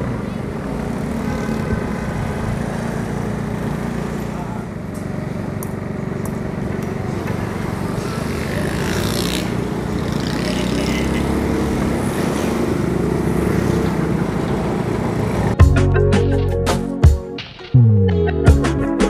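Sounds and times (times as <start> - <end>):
vehicle passing: 0.0 - 15.6
road noise: 0.0 - 16.7.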